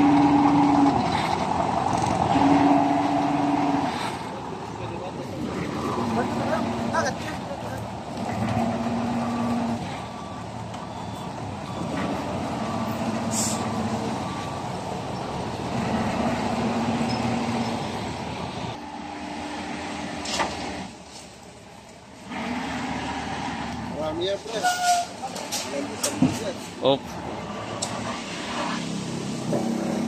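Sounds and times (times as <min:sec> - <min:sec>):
truck diesel engine under load: 0:00.0 - 0:30.0.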